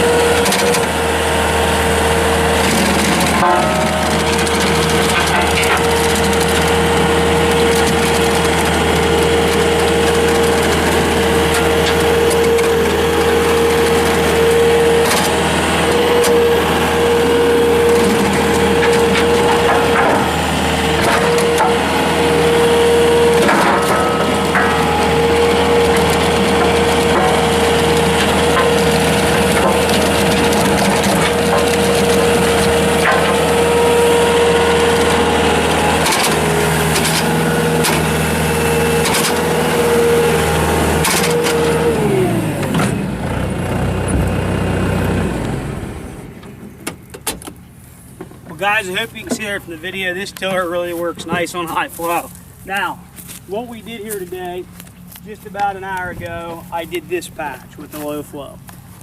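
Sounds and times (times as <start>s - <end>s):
diesel engine under load: 0.0s - 59.0s
rototiller churning soil: 0.0s - 59.0s.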